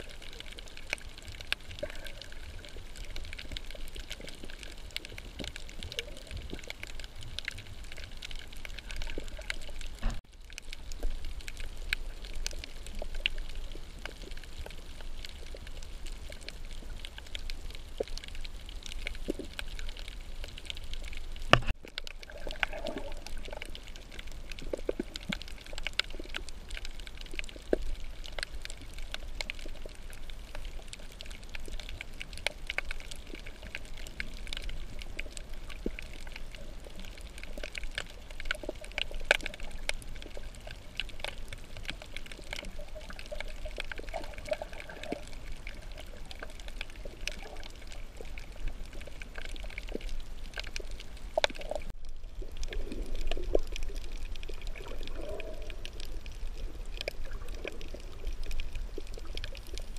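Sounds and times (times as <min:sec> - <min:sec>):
small crackling clicks: 0:00.0 - 0:59.9
water sloshing and gurgling: 0:00.0 - 0:59.9.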